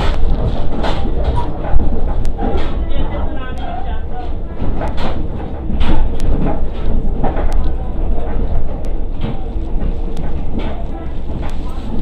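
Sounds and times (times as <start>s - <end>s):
sharp clicks and rattles: 0.0s - 12.0s
train interior rumble: 0.0s - 12.0s.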